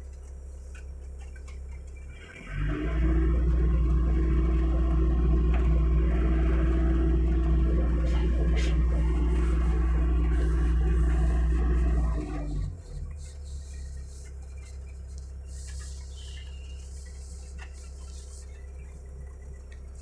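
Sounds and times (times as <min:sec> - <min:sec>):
excavator engine at high revs: 0:02.1 - 0:20.0.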